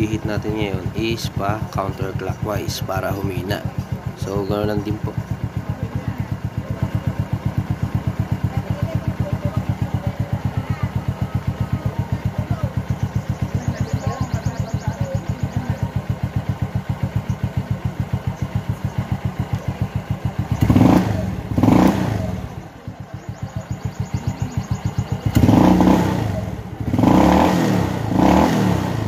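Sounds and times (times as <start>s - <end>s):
scooter engine idling: 0.0s - 29.0s
scooter engine revving: 0.0s - 29.0s.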